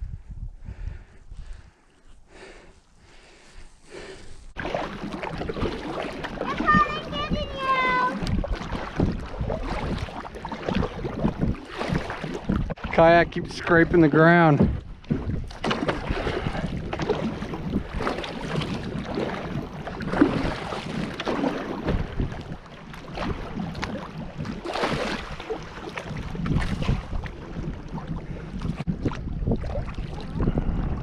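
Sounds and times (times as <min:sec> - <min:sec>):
wind rumbling on microphone: 0:00.0 - 0:31.0
kayak hull scraping riverbed: 0:03.7 - 0:30.1.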